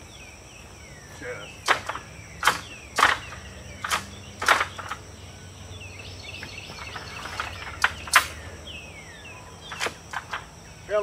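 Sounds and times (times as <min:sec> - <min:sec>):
bird chirps: 0:00.0 - 0:11.0
insect buzzing: 0:00.0 - 0:11.0.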